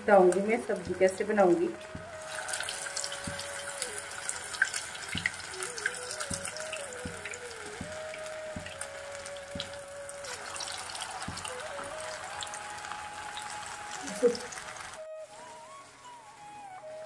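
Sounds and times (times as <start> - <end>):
food deep-frying in oil: 0.2 - 15.8
crackling pops: 0.3 - 15.0.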